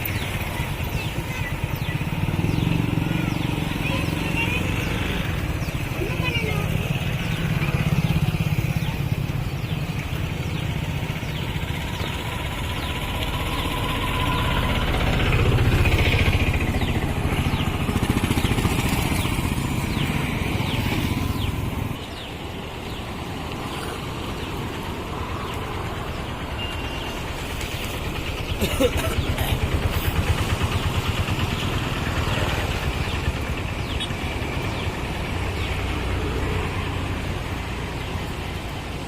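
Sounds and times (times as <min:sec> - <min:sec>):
motorcycle engine running: 0:00.0 - 0:38.8.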